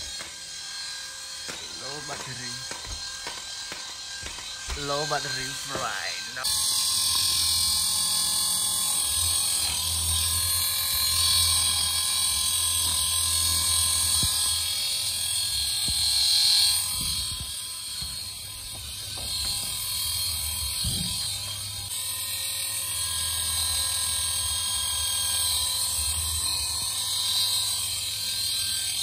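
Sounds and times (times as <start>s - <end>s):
small electric motor buzzing: 0.0s - 29.0s.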